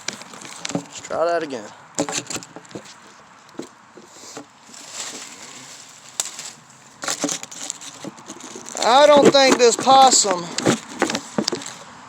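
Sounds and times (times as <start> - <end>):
handling rustling: 0.0 - 1.1, 2.0 - 11.9.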